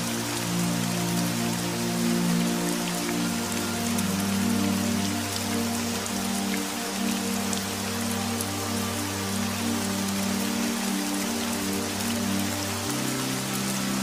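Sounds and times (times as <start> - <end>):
ambient music pad: 0.0 - 14.0
steady rain falling: 0.0 - 14.0.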